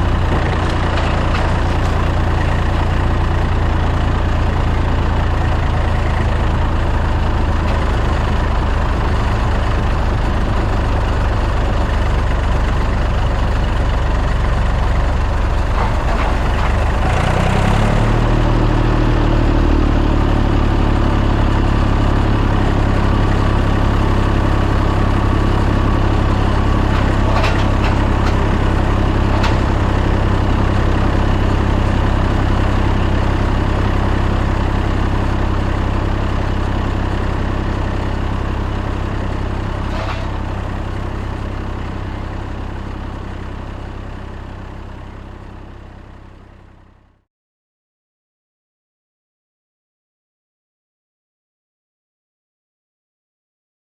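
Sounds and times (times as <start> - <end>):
tractor engine running: 0.0 - 47.2.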